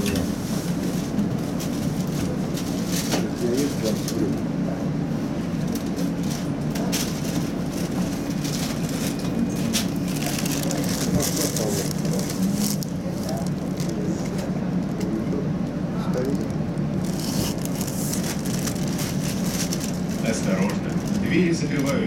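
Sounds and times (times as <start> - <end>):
tram humming: 0.0 - 22.0.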